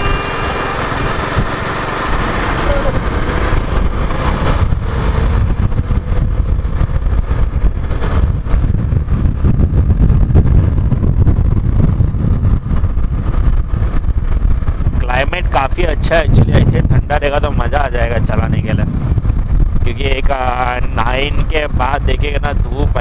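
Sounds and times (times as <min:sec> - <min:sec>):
motorcycle engine rumble: 0:00.0 - 0:23.0
wind on microphone: 0:00.0 - 0:23.0.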